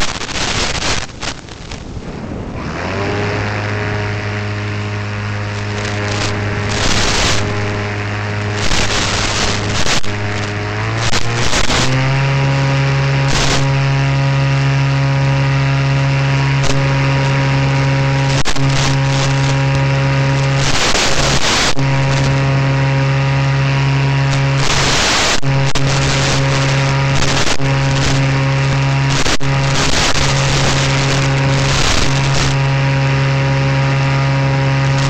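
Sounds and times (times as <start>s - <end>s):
radio static hiss: 0.0s - 2.1s, 3.3s - 14.0s, 16.6s - 23.2s, 24.2s - 35.0s
model motor and propeller hum: 0.0s - 35.0s.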